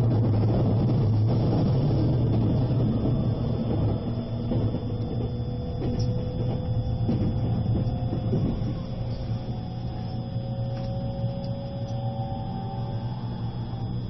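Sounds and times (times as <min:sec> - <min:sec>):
wheels clicking over rails: 0:00.0 - 0:12.9
faint whine: 0:00.0 - 0:14.0
train cabin low rumble: 0:00.0 - 0:14.0.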